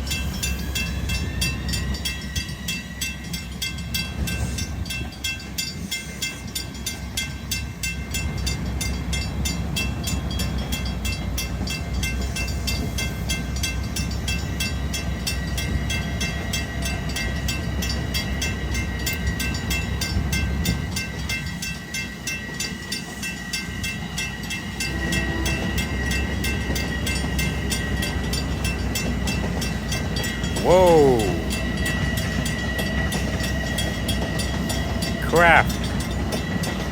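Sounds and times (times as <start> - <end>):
train high whine: 0.0 - 36.9
train low rumble: 0.0 - 36.9.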